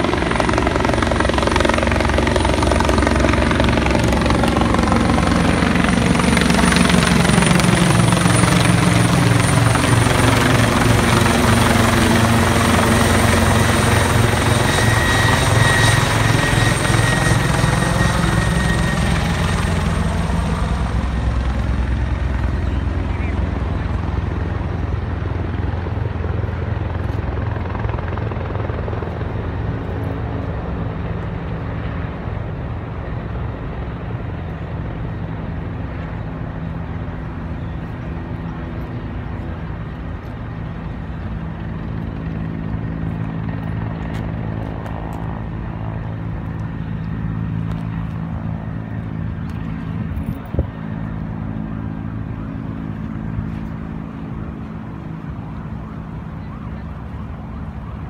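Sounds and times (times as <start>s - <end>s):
helicopter rotor chop: 0.0s - 58.0s.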